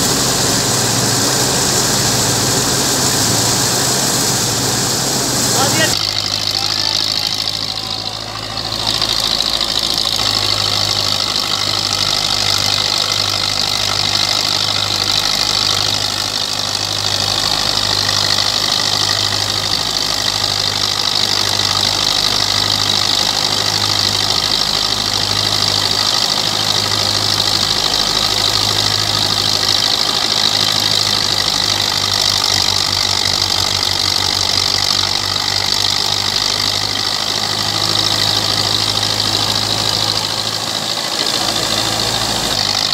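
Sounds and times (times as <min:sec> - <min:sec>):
thresher whirring: 0:00.0 - 0:42.9
tractor diesel engine under load: 0:00.0 - 0:42.9.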